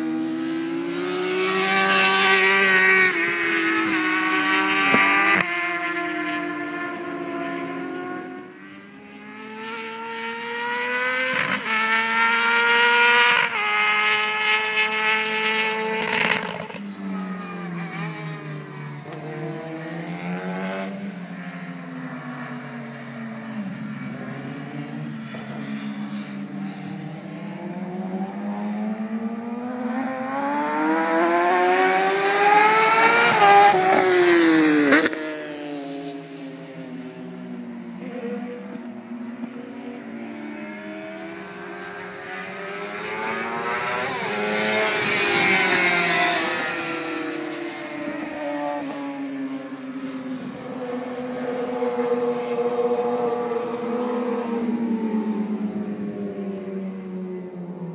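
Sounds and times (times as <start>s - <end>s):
motorcycle engine revving: 0.0s - 23.2s, 23.8s - 36.7s, 38.0s - 49.2s.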